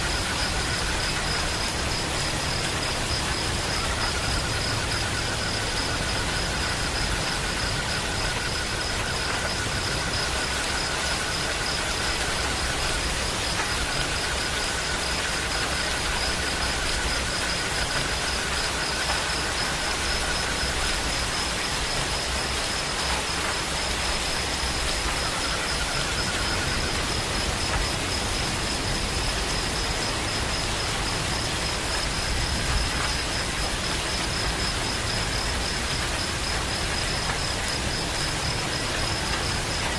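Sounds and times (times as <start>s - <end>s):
high insect trill: 0.0s - 39.9s
low insect trill: 0.0s - 39.9s
steady rain falling: 0.0s - 39.9s.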